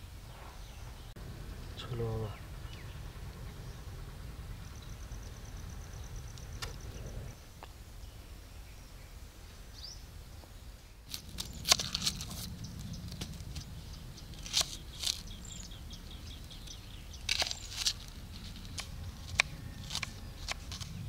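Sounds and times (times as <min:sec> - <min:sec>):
faint bird chirps: 0:00.2 - 0:18.1.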